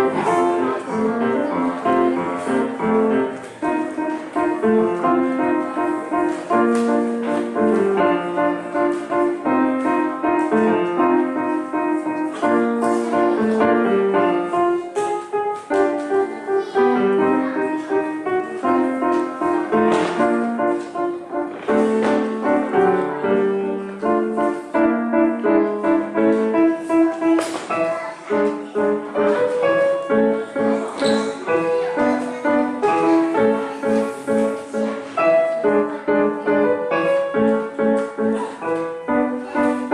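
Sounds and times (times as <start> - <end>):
lively piano piece: 0.0 - 39.9.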